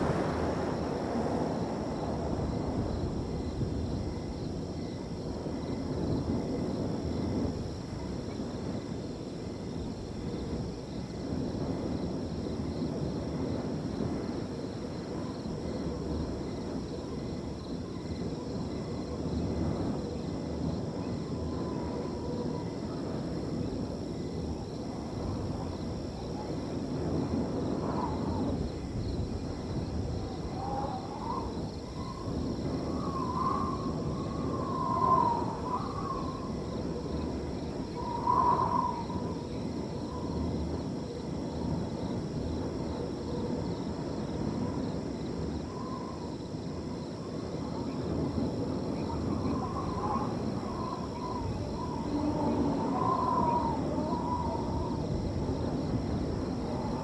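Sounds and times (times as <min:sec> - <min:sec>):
crickets trilling: 0:00.0 - 0:57.0
wind gusting through field: 0:00.0 - 0:57.0.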